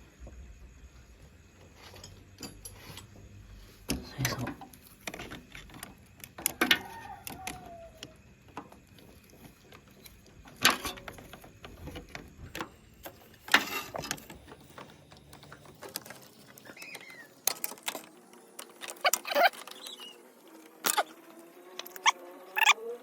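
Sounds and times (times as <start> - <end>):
clicks and knocks of metal parts: 1.7 - 3.2, 3.8 - 21.2.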